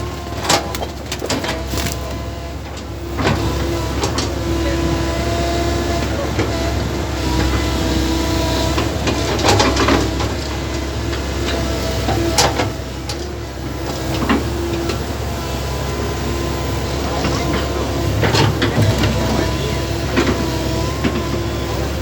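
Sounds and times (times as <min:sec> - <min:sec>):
engine humming and whining: 0:00.0 - 0:22.0.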